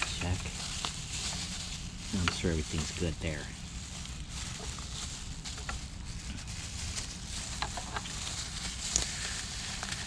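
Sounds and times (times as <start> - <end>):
steady low hum and hiss: 0.0 - 10.0.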